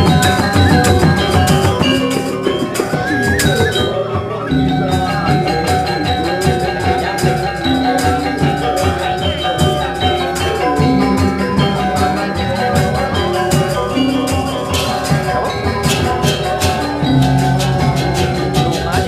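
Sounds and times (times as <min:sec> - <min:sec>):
struck metal instruments: 0:00.0 - 0:19.0.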